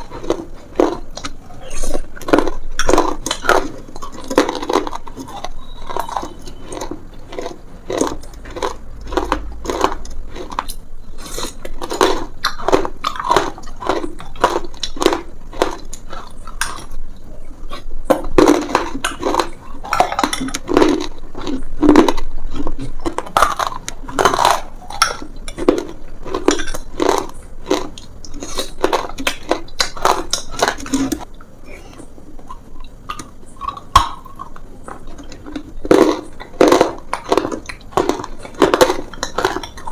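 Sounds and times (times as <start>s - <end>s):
person crunching hard food: 0.0s - 39.9s.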